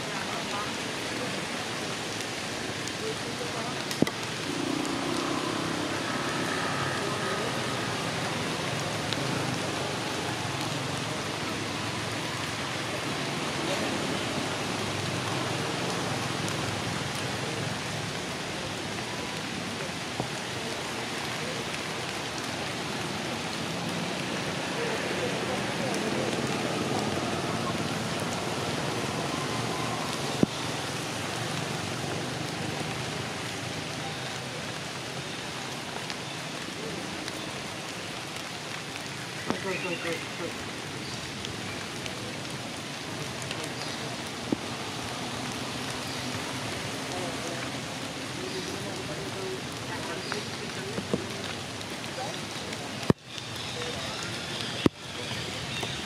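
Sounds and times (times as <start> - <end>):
falling rain hiss: 0.0 - 56.0.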